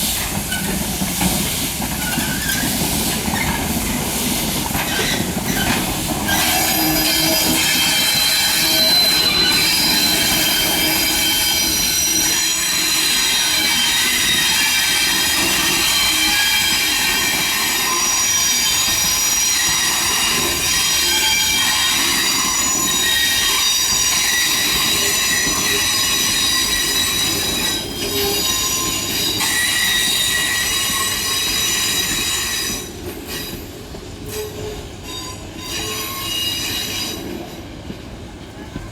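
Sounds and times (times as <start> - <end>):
train wheels squealing on rails: 0.0 - 38.9.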